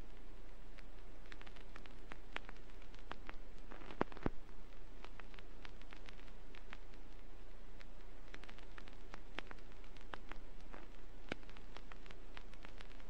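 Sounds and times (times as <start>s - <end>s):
vinyl record crackle and hiss: 0.0s - 13.0s
vinyl record pops: 0.0s - 13.0s.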